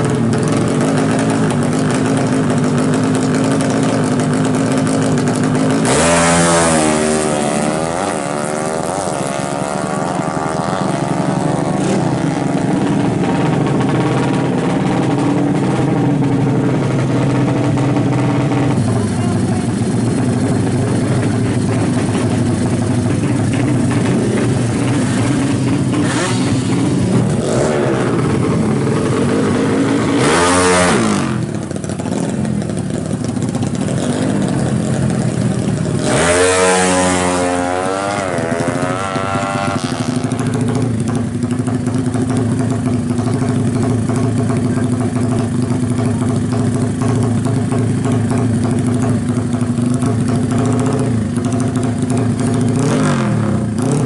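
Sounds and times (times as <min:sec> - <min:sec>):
engines revving: 0:00.0 - 0:54.0
motorcycle engines idling loudly: 0:00.0 - 0:54.0.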